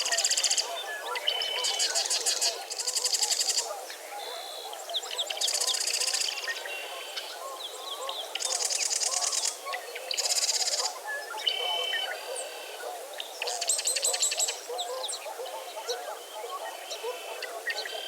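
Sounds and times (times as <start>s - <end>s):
chatter of low bird calls: 0.0s - 18.0s.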